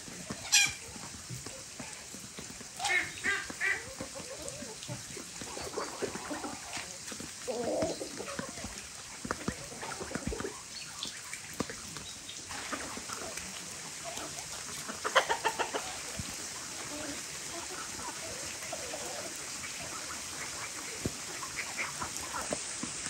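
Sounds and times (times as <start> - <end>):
chickens clucking: 0.0 - 23.0
rain hissing: 0.0 - 23.0.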